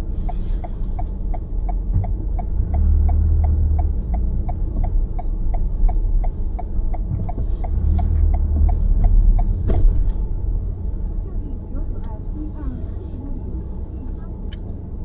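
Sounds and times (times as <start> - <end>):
low cabin road rumble: 0.0 - 15.0
turn signal ticking: 0.0 - 15.0.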